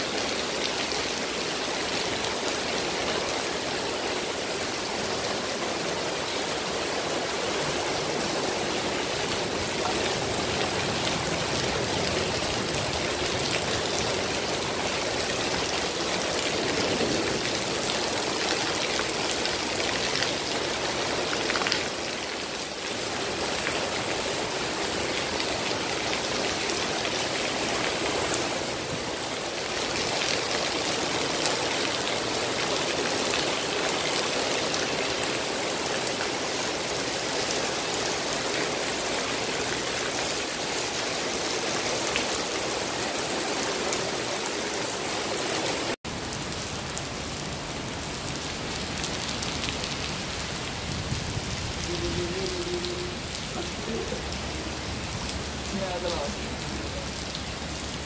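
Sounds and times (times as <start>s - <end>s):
heavy rain on wet paving: 0.0s - 58.0s.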